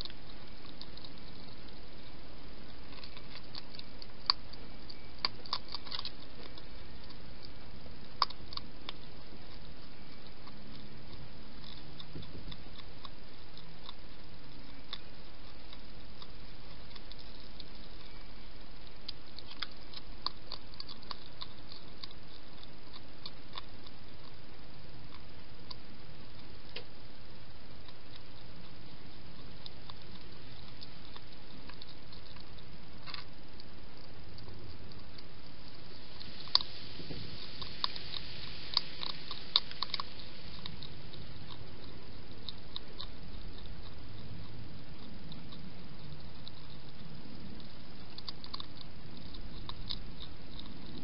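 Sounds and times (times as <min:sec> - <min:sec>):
hedgehog chewing dry food: 0:00.0 - 0:51.0
steady hiss: 0:00.0 - 0:51.0.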